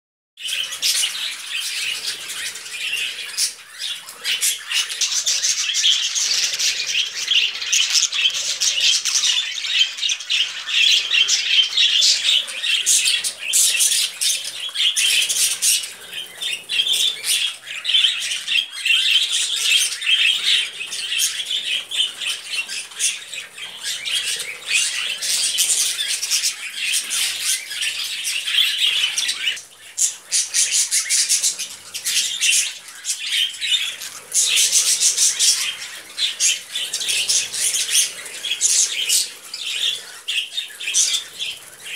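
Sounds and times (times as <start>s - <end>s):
budgerigars chattering: 0.4s - 41.9s.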